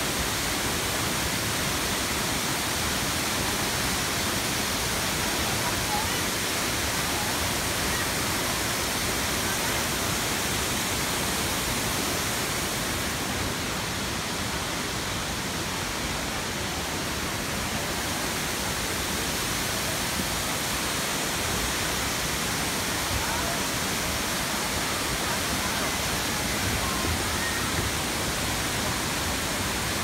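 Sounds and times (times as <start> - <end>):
waterfall rushing into a pool: 0.0 - 30.0.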